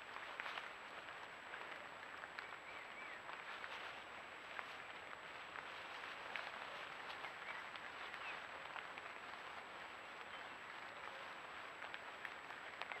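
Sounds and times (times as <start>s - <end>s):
rain pattering on leaves: 0.0s - 13.0s.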